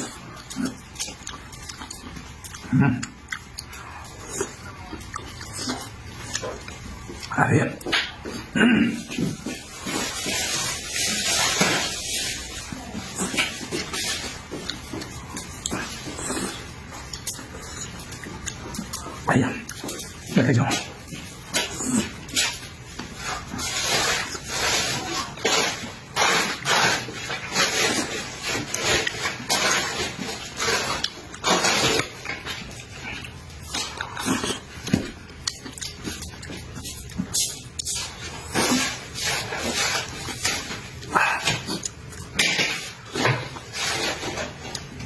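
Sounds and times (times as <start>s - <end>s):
chewing with wet smacks: 0.0s - 10.3s, 12.3s - 24.5s, 26.5s - 43.8s
person slurping: 0.0s - 44.9s.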